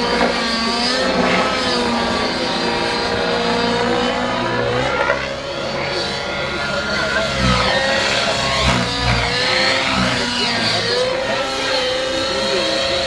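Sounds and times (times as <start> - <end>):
model helicopter engine whine: 0.0 - 13.0.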